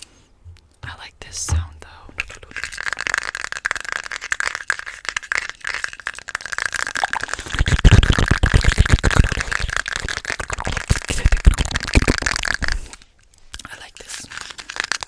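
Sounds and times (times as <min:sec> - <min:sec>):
wet mouth clicks and pops: 0:00.6 - 0:15.0.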